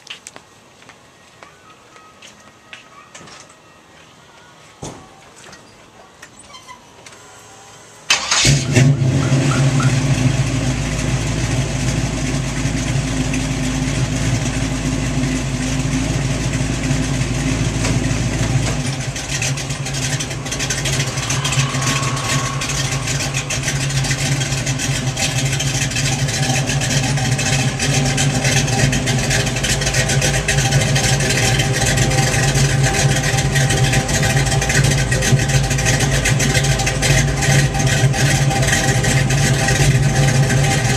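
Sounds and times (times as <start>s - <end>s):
car engine starting and idling: 7.2s - 40.9s.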